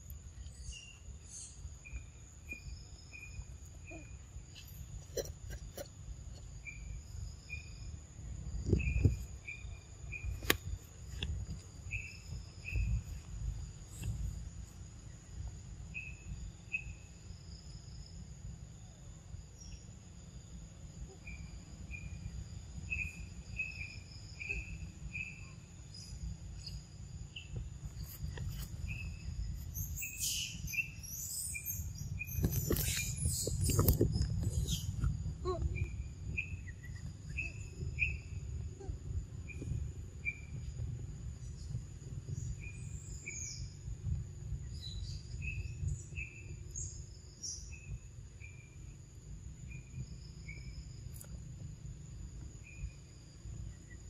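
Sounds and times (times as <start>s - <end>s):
insect chirps: 0.0s - 54.0s.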